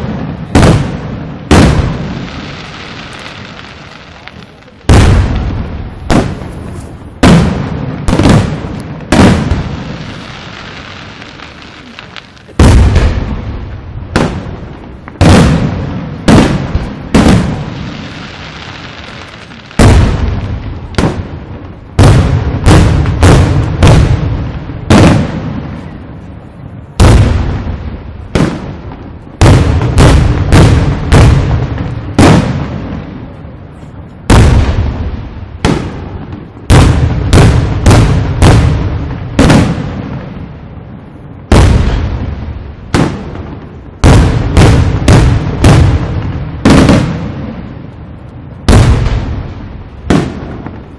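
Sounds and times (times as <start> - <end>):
firework shells booming: 0.0 - 26.2, 26.9 - 50.9.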